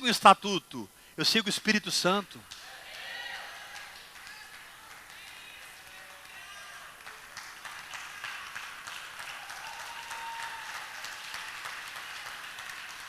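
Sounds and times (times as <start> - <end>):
congregation applauding: 2.4 - 13.0.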